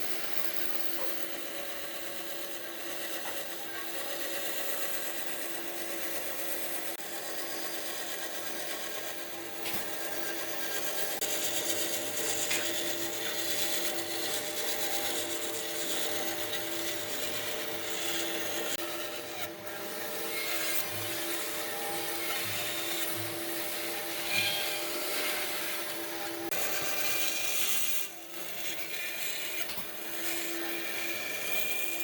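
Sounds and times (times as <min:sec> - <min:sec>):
power tool motor: 0:00.0 - 0:32.0.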